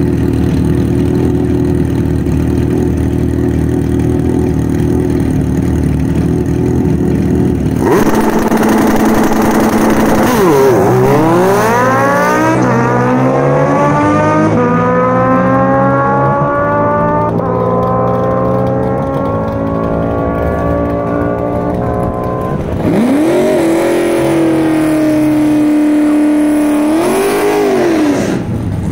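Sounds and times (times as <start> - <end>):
motorcycle engines accelerating: 0.0 - 28.9.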